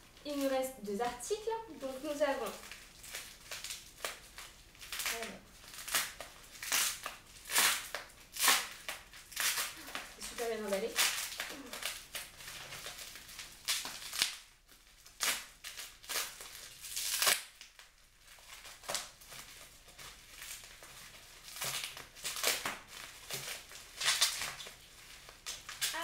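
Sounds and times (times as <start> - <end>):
bubble wrap crinkling: 0.0 - 26.0.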